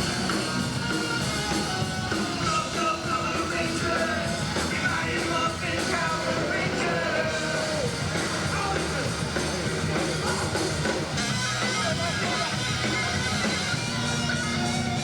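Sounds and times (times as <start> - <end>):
rock music with guitar and drums: 0.0 - 15.0.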